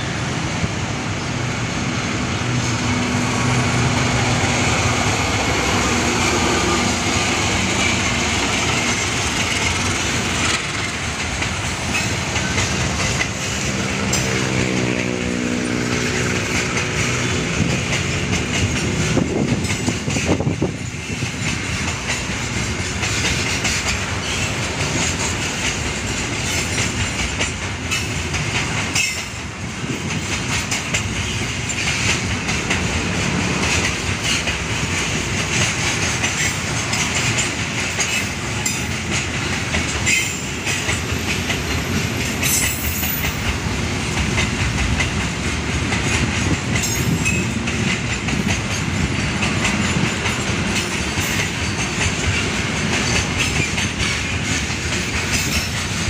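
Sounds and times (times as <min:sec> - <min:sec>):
wheels clattering over rail joints: 0:03.4 - 0:56.0.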